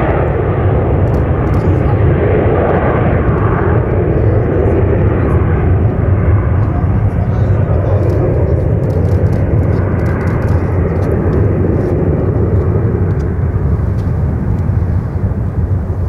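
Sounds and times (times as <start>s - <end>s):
jet engines low rumble: 0.0s - 16.0s.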